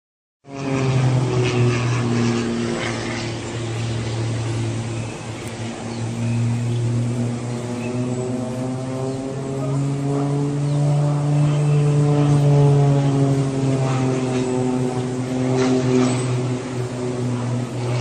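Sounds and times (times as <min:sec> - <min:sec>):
propeller aircraft engine droning: 0:00.4 - 0:18.0.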